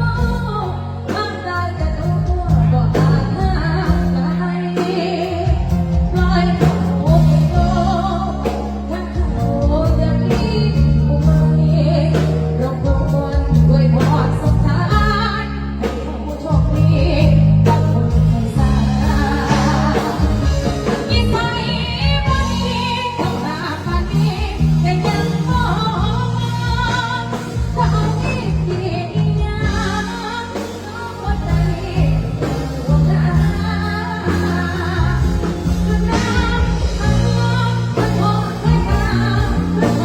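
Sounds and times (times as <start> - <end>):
live band with heavy bass: 0.0 - 40.0
woman singing: 0.0 - 40.0.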